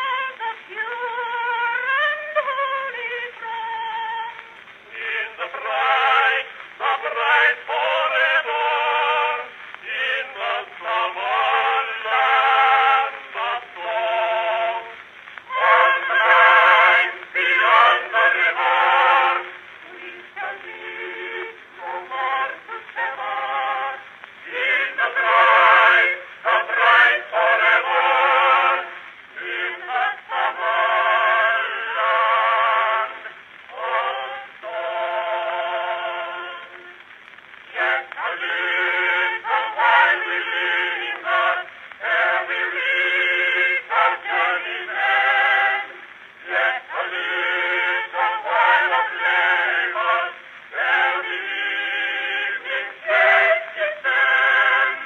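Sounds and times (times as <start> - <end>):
phonograph record of singing voice: 0.0 - 55.0.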